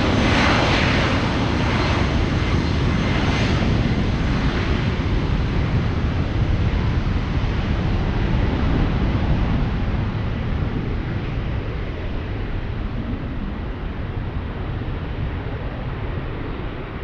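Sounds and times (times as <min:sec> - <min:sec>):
airliner engine rumble: 0:00.0 - 0:17.0.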